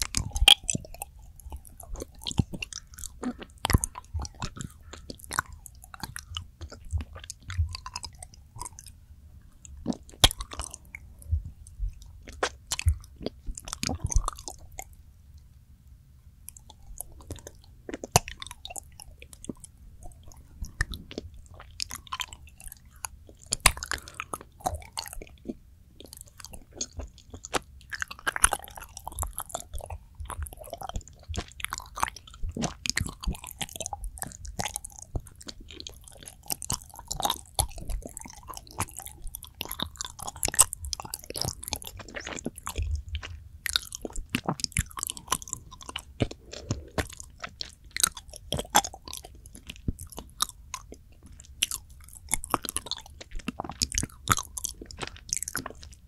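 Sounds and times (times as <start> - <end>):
sticky mouth clicks and smacks: 0.0 - 9.0, 9.6 - 15.0, 16.4 - 56.0
chewing soft chocolates: 0.0 - 56.0.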